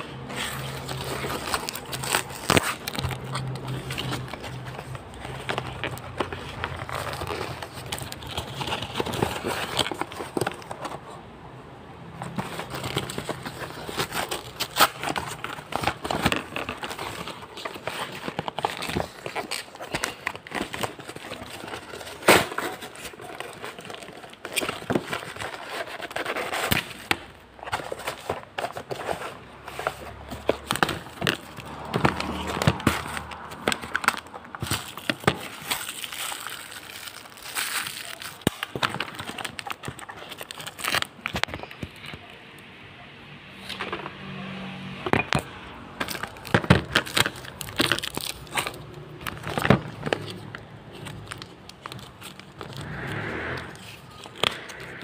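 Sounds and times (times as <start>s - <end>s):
plastic packaging crinkling: 0.0s - 11.2s, 12.2s - 42.4s, 45.4s - 55.0s.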